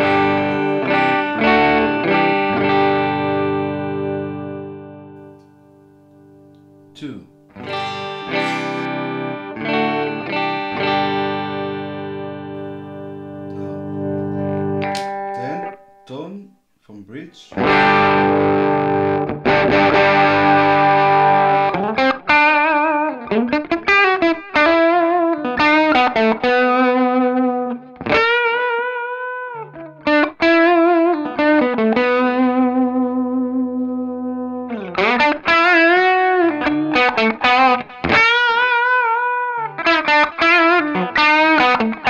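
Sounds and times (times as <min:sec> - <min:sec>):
distorted electric guitar: 0:00.0 - 0:05.8, 0:06.4 - 0:16.0, 0:17.5 - 0:42.0.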